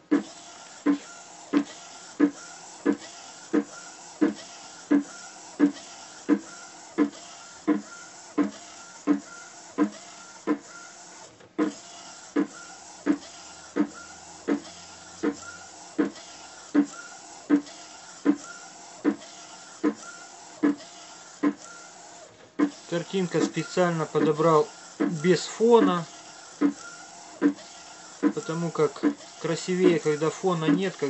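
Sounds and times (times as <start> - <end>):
printer knocking: 0.0 - 10.7, 11.5 - 21.7, 22.5 - 31.0
printer carriage whirring: 0.0 - 31.0.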